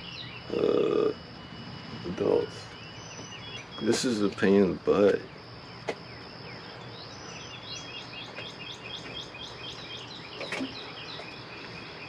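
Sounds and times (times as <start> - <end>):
bird chirping: 0.0 - 1.2, 1.9 - 12.0
high-pitched whine: 0.0 - 12.0.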